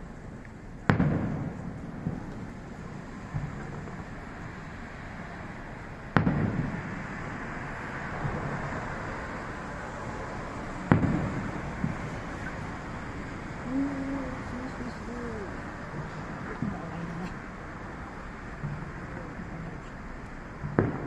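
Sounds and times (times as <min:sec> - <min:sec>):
faint fireworks pops: 0:00.0 - 0:09.6, 0:10.5 - 0:13.6, 0:14.2 - 0:21.0
fireworks booms with echo: 0:00.7 - 0:21.0.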